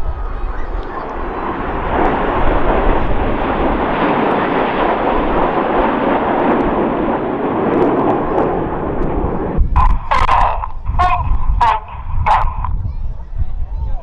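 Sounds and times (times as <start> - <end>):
jet planes flying past: 0.0 - 13.3.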